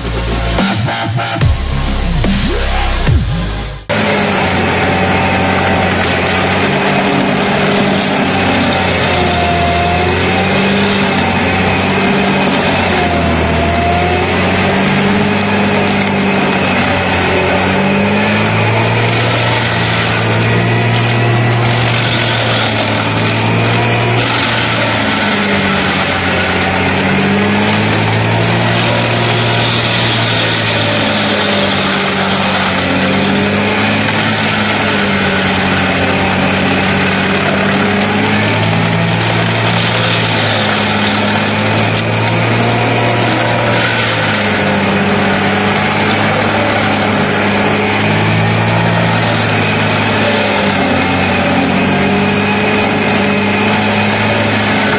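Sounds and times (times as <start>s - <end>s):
heavy machine engine running: 0.0s - 54.9s.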